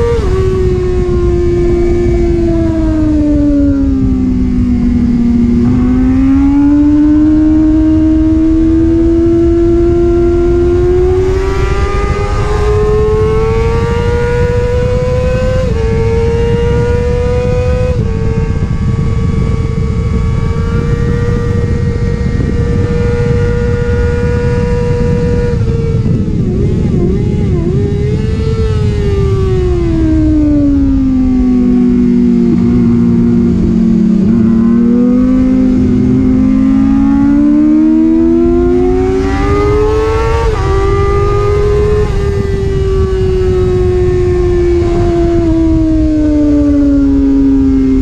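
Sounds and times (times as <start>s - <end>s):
motorcycle engine revving: 0.0s - 48.0s
wind rush on microphone: 0.0s - 48.0s.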